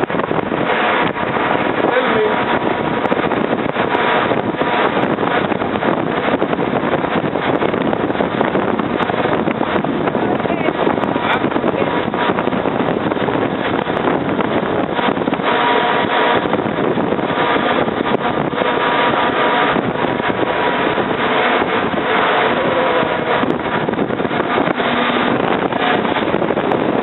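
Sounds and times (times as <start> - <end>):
storm wind blasting microphone: 0.0 - 27.0.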